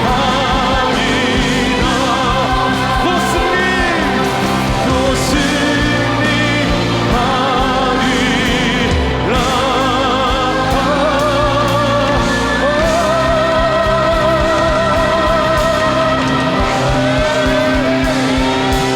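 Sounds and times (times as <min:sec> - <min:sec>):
drums steady beat: 0:00.0 - 0:18.9
person singing with vibrato: 0:00.0 - 0:18.9
worship band playing: 0:00.0 - 0:18.9.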